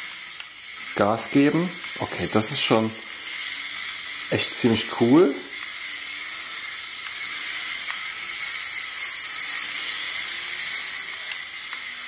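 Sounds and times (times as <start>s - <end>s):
toy car electric motor whirring: 0.0s - 12.0s.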